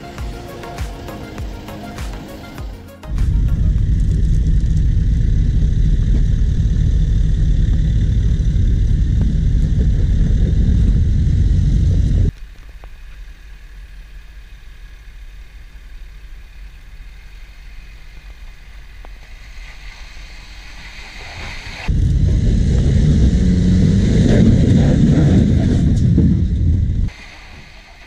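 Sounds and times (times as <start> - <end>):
vehicle engine rumbling: 0.0 - 27.2.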